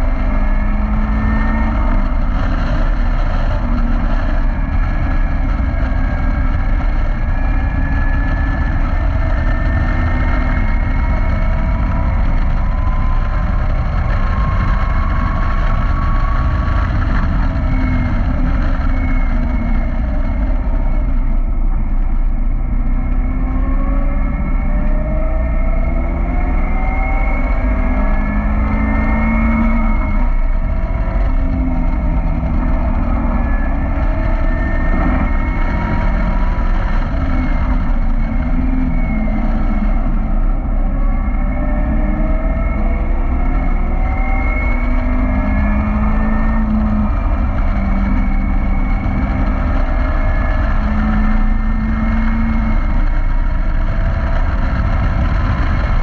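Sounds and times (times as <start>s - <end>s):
car engine revving at speed: 0.0s - 56.0s
wind rush: 0.0s - 56.0s.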